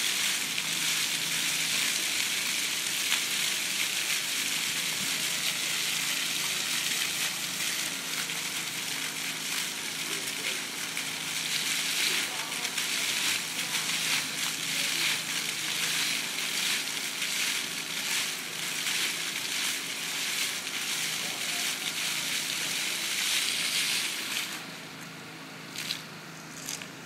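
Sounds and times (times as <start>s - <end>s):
fountain water jets splashing: 0.0s - 25.0s
steady low hum: 0.0s - 27.0s.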